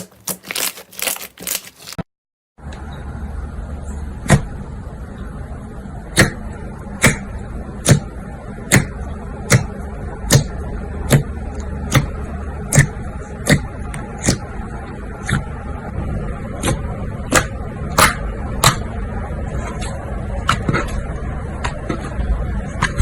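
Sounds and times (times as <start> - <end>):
low background hum: 2.6 - 23.0.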